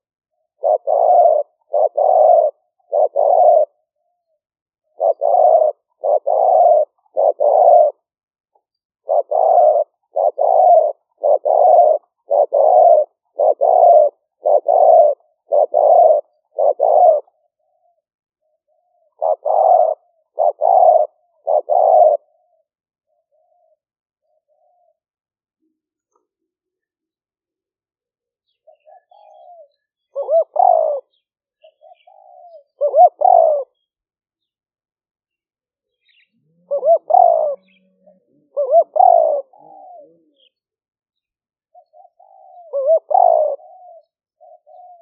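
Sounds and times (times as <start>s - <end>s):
dove cooing: 0.0s - 25.2s, 28.5s - 34.0s, 35.9s - 45.0s.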